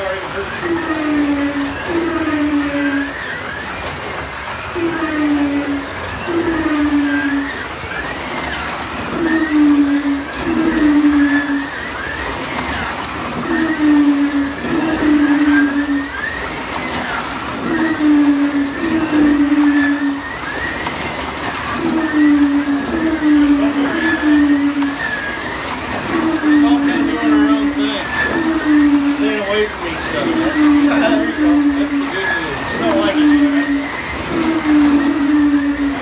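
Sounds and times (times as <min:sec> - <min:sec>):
slot car motors whining: 0:00.0 - 0:36.0.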